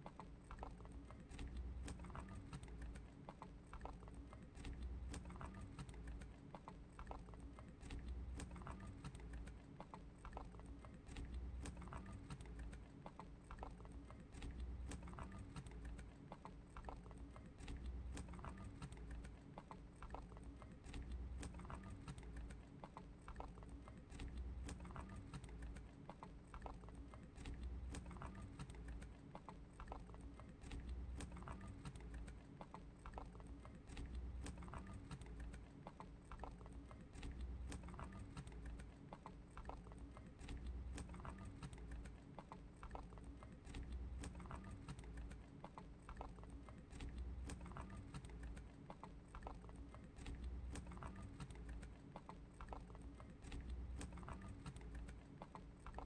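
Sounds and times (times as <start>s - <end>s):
rabbit chewing a leaf: 0.0s - 56.0s.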